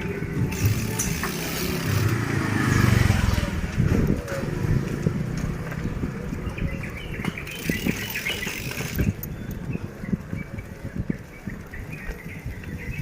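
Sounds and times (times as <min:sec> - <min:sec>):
bicycle knocks and rattles: 0:00.0 - 0:13.0
bicycle tyres rumbling: 0:00.0 - 0:13.0.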